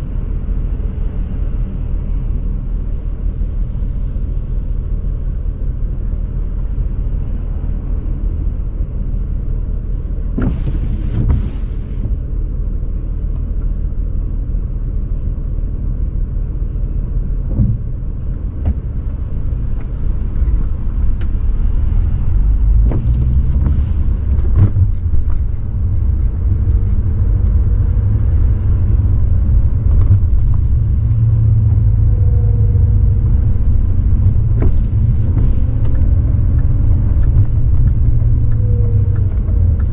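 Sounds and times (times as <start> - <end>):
car engine rumbling while driving: 0.0 - 39.9.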